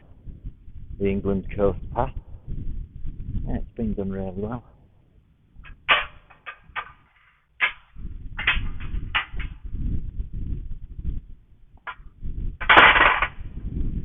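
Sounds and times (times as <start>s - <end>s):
low rumble: 0.0s - 6.0s, 7.9s - 14.0s.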